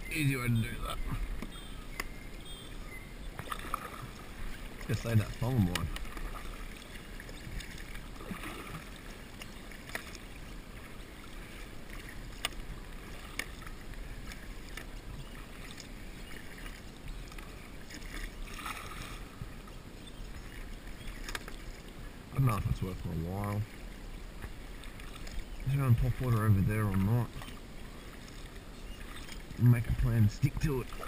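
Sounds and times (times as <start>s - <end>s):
paddle splashing in water: 0.0s - 31.0s.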